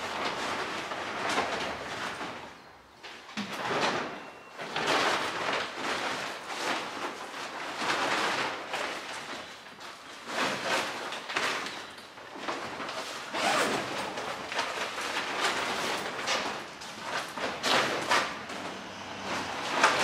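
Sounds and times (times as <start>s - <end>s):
fabric cover rustling and swishing: 4.0s - 20.0s.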